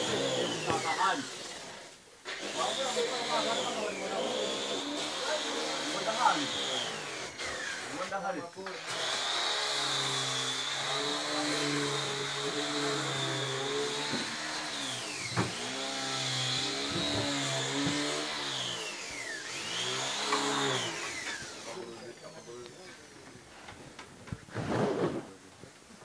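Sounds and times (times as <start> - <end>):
motor whining: 0.0 - 23.0.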